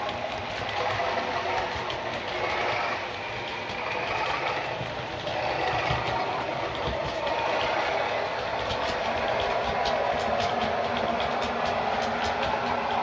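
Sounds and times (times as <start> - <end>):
model train diesel engine sound: 0.0 - 13.0
wheels ticking on track: 0.0 - 13.0.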